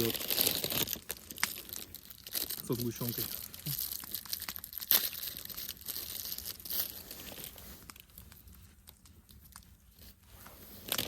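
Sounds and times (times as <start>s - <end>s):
plastic wrapper crinkling and tearing: 0.0s - 11.0s.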